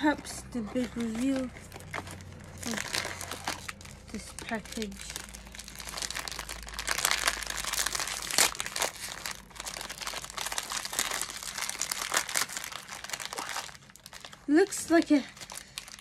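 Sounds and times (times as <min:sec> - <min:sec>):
packaging crinkling: 0:00.0 - 0:16.0.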